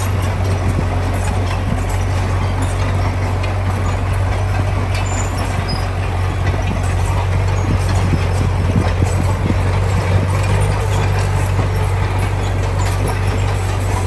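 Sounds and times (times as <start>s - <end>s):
diesel engine drone: 0.0s - 14.0s
machinery knocks and rattles: 0.0s - 14.0s.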